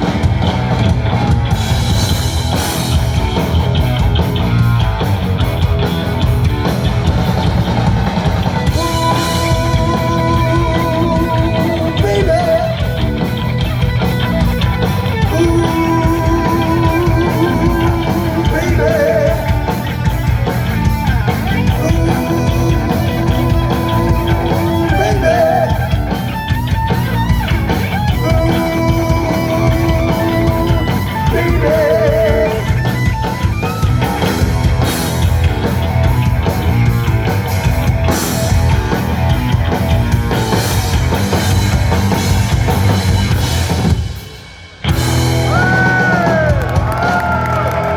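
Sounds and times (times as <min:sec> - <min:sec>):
drums and bass: 0:00.0 - 0:47.9.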